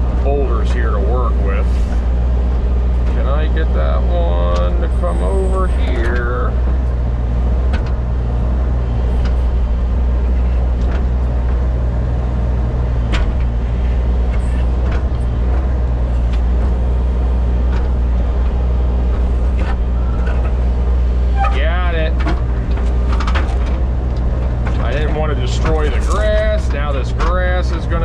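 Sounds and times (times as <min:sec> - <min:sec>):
diesel engine droning under load: 0:00.0 - 0:28.0.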